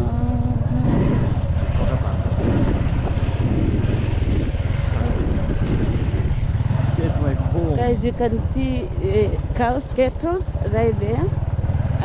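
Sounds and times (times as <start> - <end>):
road noise: 0.0 - 12.0
vehicle engine rumbling: 0.0 - 12.0.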